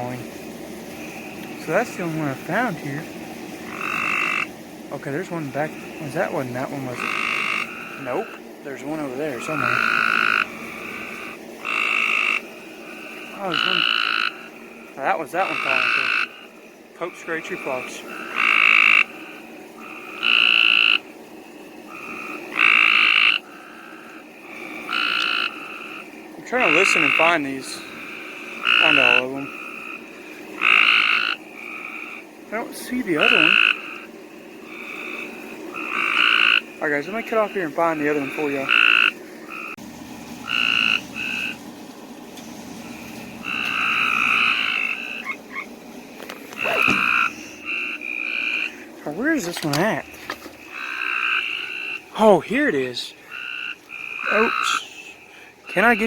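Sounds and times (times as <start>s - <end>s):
faint frog calls: 0.0s - 39.8s, 40.4s - 56.0s
tree frogs trilling: 0.0s - 56.0s.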